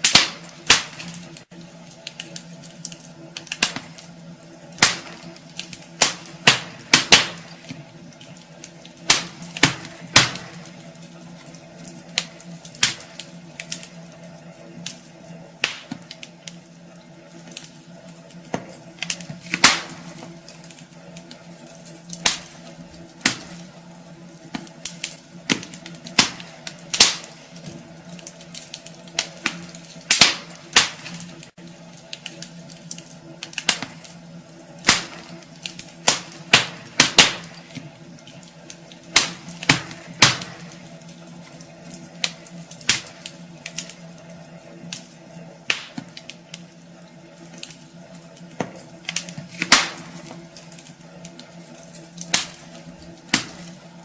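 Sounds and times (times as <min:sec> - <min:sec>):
steady low hum: 0:00.0 - 0:54.0
wood fire crackling: 0:00.0 - 0:54.0.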